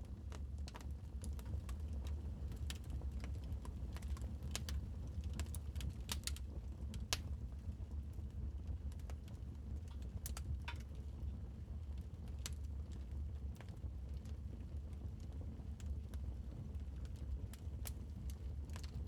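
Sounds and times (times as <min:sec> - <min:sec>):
low rumble of burning fire: 0:00.0 - 0:19.0.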